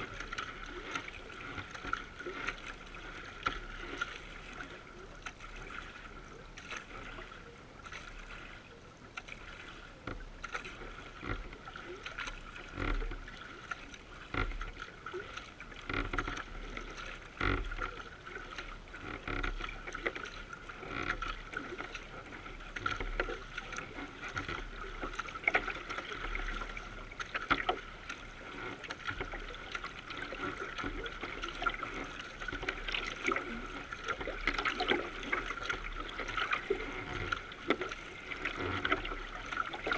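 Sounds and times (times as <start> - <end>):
water splashing along kayak bow: 0.0 - 39.9.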